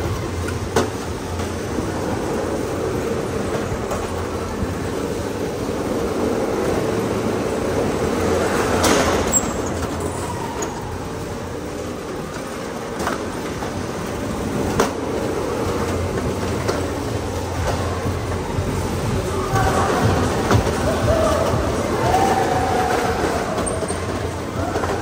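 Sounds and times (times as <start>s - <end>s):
electric go-kart motor hum: 0.0s - 25.0s.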